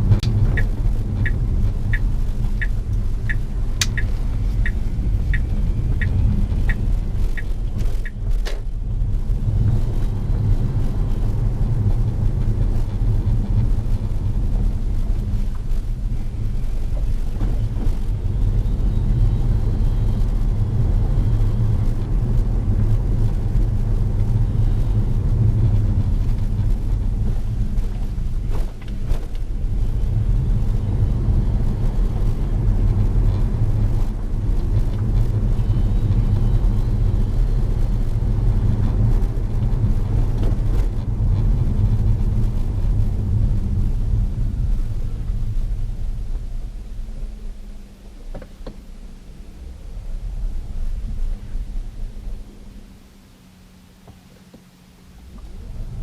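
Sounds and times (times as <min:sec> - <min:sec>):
car road noise rumble: 0:00.0 - 0:56.0.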